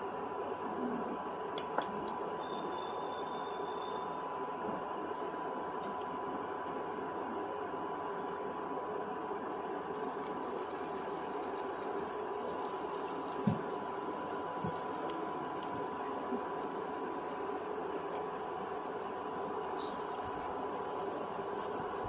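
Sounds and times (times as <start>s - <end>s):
appliance hum and hiss: 0.0s - 22.0s
thin steady whine: 0.0s - 22.0s.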